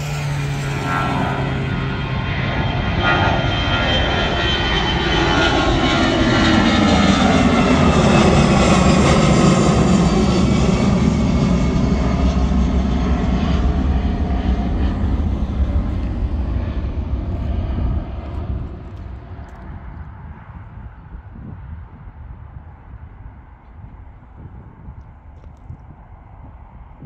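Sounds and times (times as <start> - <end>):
jet airliner roaring overhead: 0.0 - 27.0.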